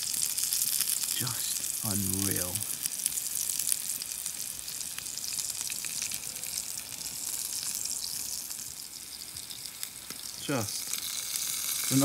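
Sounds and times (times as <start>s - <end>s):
steak sizzling on grill: 0.0s - 12.0s.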